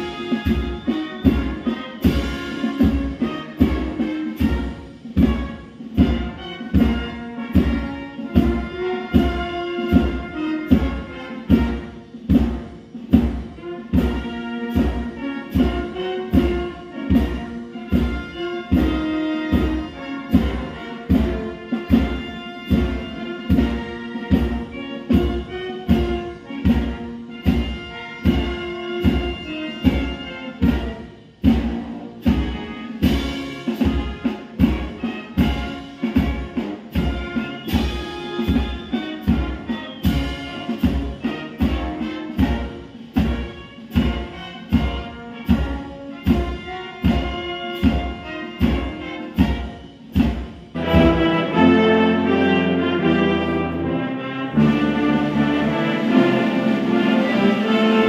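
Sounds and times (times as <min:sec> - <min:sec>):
brass band playing a march: 0:00.0 - 0:58.0.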